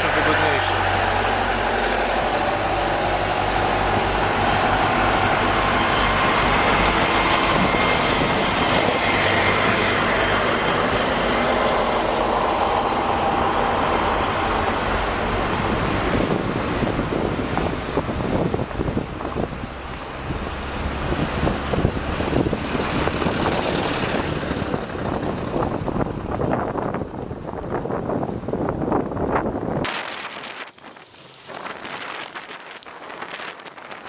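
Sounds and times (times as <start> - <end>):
car tyre and engine noise: 0.0 - 34.0.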